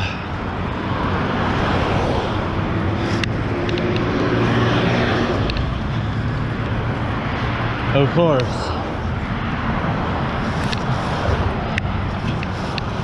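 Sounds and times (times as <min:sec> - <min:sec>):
passing vehicle engine hum: 0:00.0 - 0:13.0
traffic noise: 0:00.0 - 0:13.0.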